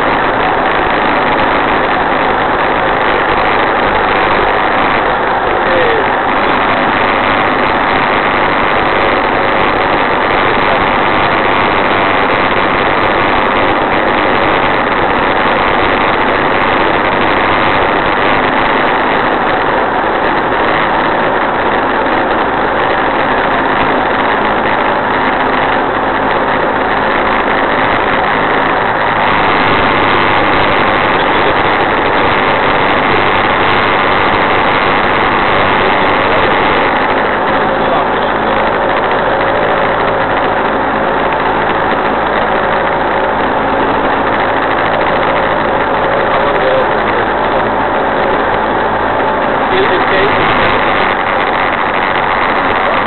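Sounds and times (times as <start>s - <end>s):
light aircraft engine and propeller: 0.0s - 53.0s.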